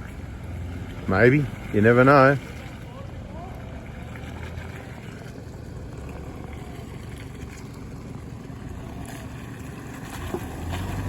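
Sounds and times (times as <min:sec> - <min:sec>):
vehicle engine droning at low revs: 0:00.0 - 0:11.0.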